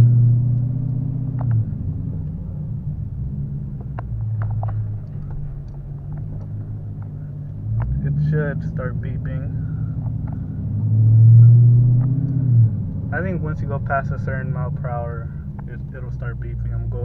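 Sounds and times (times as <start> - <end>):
car engine low hum: 0.0 - 17.0.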